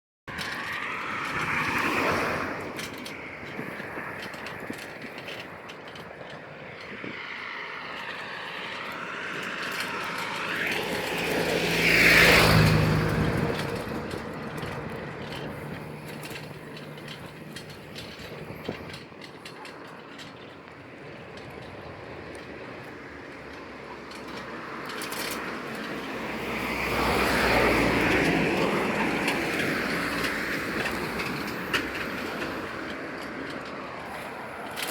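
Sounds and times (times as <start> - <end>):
vehicles passing by: 0.3 - 34.9.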